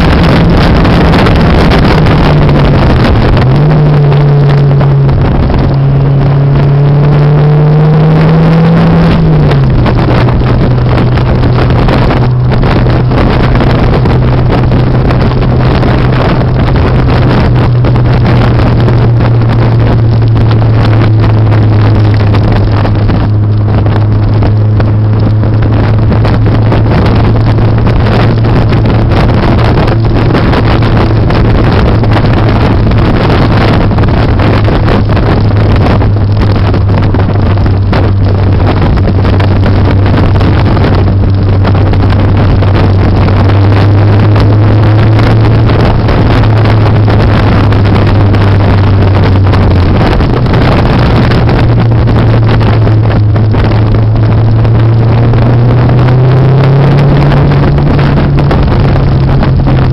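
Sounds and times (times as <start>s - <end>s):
car engine drone: 0.0s - 59.9s
wind noise: 0.0s - 59.9s.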